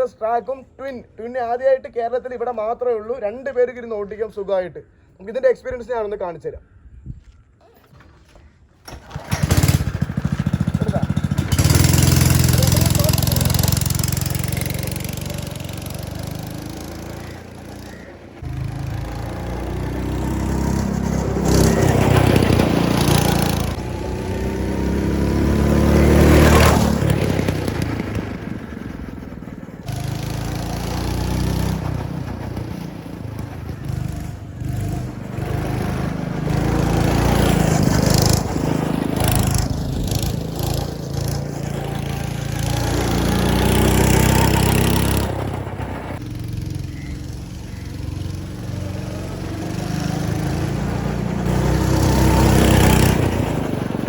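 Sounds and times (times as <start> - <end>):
go-kart engine running: 8.8 - 54.0.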